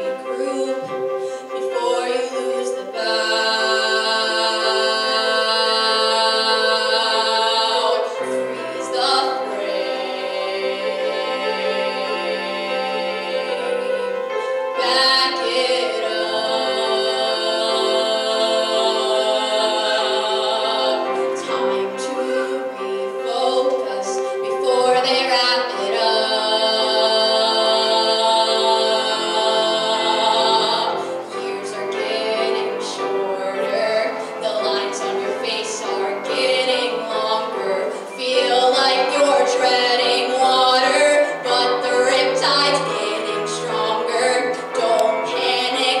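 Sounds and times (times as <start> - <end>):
young woman singing into microphone: 0.0 - 8.1, 14.8 - 46.0
musical accompaniment: 0.0 - 46.0.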